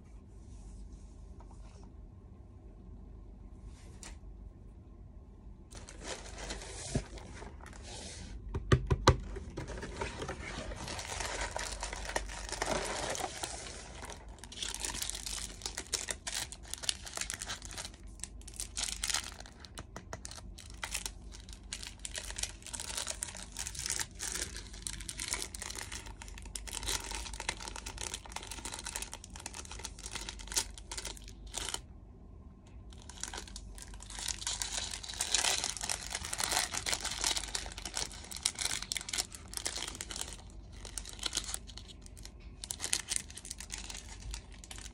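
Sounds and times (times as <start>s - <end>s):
plastic wrapping crinkling: 5.7s - 7.8s, 9.2s - 31.9s, 32.9s - 44.9s.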